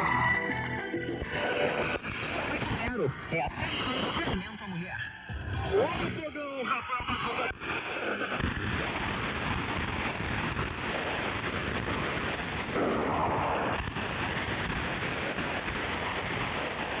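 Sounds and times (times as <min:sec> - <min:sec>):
radio signal: 0:00.0 - 0:17.0
shortwave radio static: 0:00.0 - 0:17.0.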